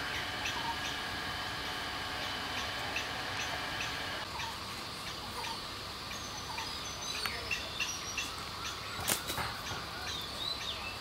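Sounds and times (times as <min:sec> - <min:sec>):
bird chirps: 0:00.0 - 0:01.1, 0:02.2 - 0:11.0.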